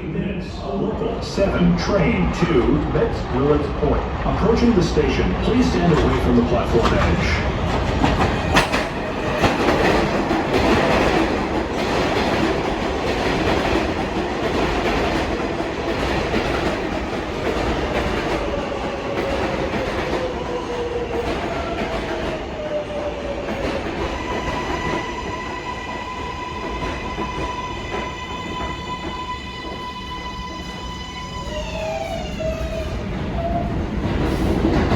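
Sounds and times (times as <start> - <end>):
subway train rumble and wheel clatter: 0.0 - 34.9.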